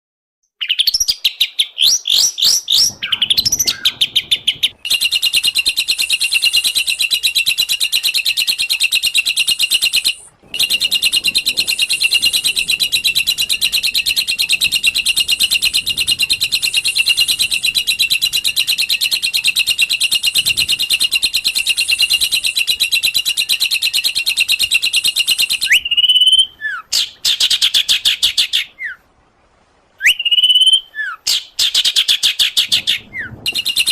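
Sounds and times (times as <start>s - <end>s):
songbird whistling and trilling: 0.4s - 29.0s, 30.0s - 33.9s.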